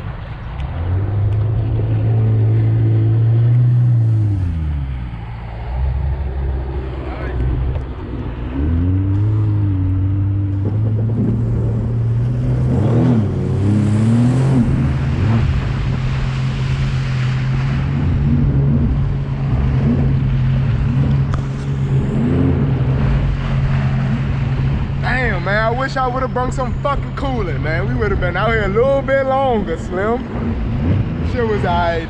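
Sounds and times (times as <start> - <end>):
jet ski engine running: 0.0 - 32.0
water rushing: 0.0 - 32.0
wind: 0.0 - 32.0.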